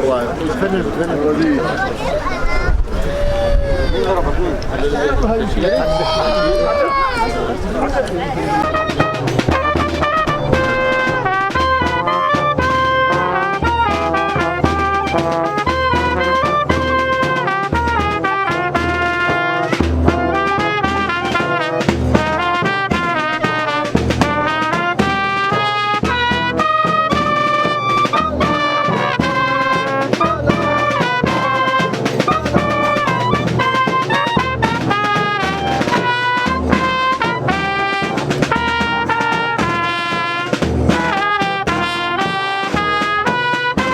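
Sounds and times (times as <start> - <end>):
steady drum beat: 0.0 - 43.9
trumpets and trombones: 0.0 - 43.9.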